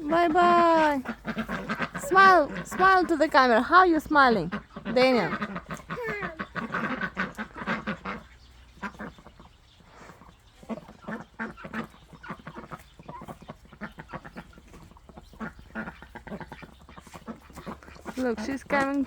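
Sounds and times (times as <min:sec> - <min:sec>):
poultry quacking calls: 0:00.0 - 0:19.0.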